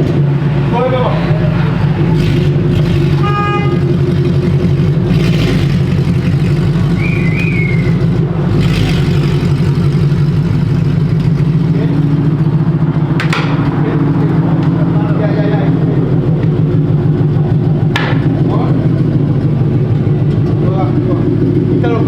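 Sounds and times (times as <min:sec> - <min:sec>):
car engine deep drone: 0:00.0 - 0:22.0.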